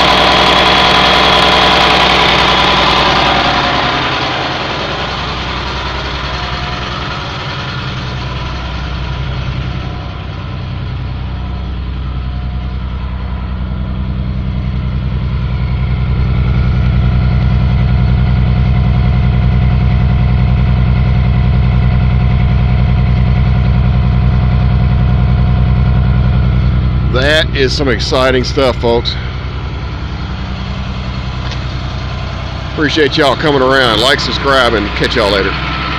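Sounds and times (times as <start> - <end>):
diesel bus engine idling: 0.0 - 35.9.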